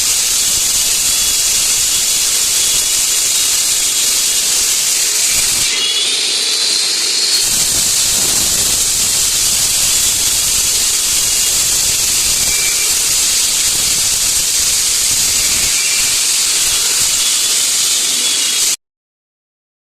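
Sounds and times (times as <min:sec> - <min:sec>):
concrete saw grinding: 0:00.0 - 0:18.8.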